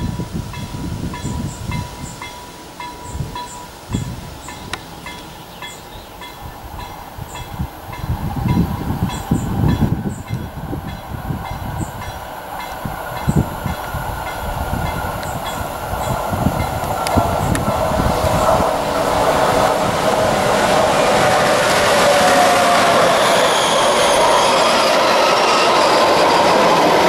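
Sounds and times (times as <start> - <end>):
rail hum: 0.0 - 27.0.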